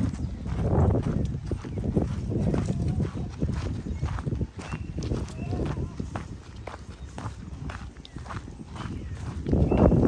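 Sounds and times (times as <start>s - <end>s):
footsteps on dirt trail: 0.0s - 10.0s.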